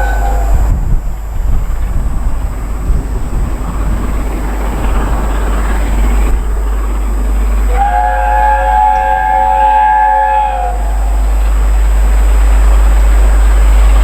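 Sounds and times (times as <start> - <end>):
train passing with heavy rumble: 0.0 - 14.0.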